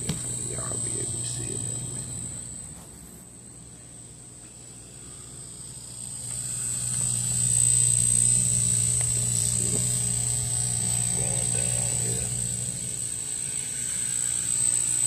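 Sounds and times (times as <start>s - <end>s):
electric hum: 0.0s - 15.0s
high-pitched whine: 0.0s - 15.0s.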